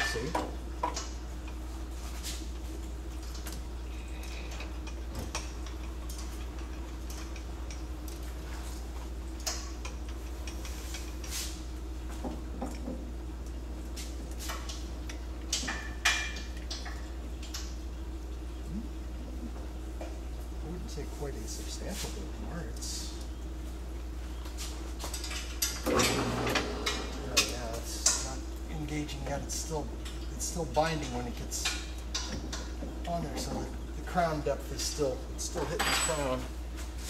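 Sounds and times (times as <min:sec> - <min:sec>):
workshop low hum: 0:00.0 - 0:37.0.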